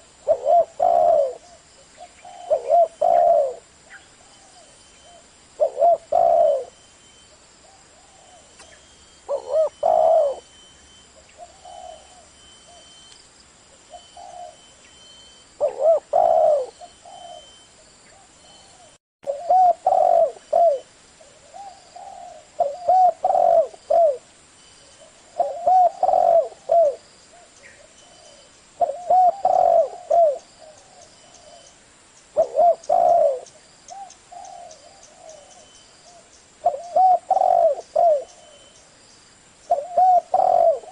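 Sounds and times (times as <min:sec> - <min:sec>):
dove cooing: 0:00.0 - 0:06.8, 0:07.6 - 0:10.6, 0:11.2 - 0:13.0, 0:13.9 - 0:14.8, 0:15.6 - 0:24.3, 0:24.9 - 0:31.7, 0:32.4 - 0:38.8, 0:39.7 - 0:40.9.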